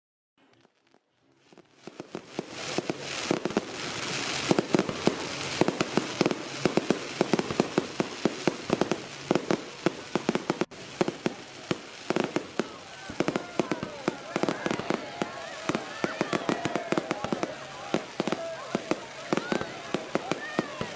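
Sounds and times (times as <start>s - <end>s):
fireworks bangs and crackles: 0.4s - 20.9s
fireworks hiss: 1.4s - 20.9s.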